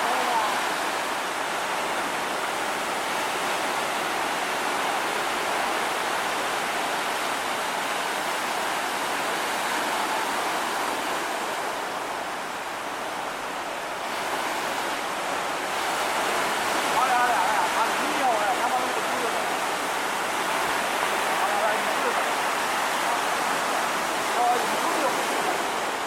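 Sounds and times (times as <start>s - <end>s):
heavy ocean surf breaking: 0.0s - 26.0s.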